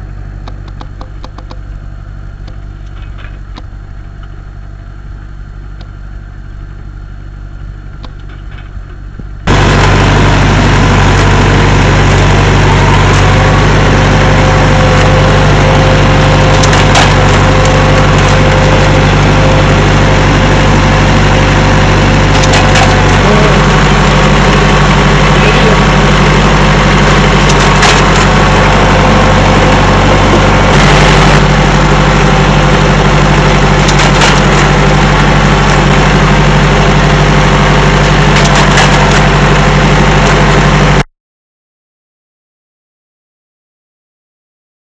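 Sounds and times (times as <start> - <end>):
loud mechanical noise: 0.0 - 41.1
tractor engine running: 0.0 - 41.1.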